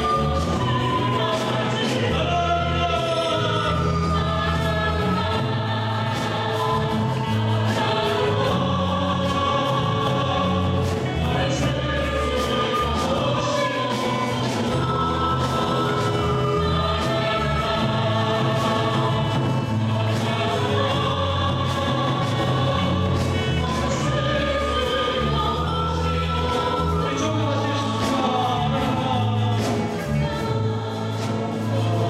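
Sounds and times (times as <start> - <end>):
group voices singing: 0.0 - 32.0
instrumental backing: 0.0 - 32.0
lead singer singing: 0.0 - 32.0.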